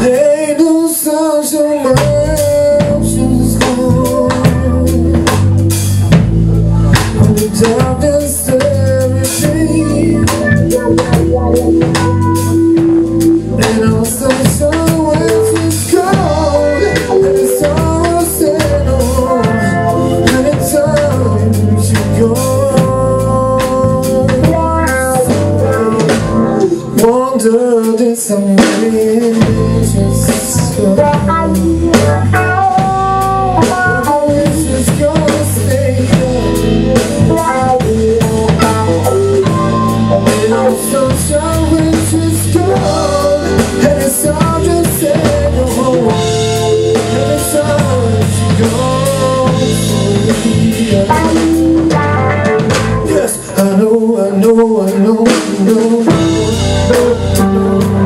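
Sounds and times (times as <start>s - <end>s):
live blues band playing: 0.0s - 58.0s.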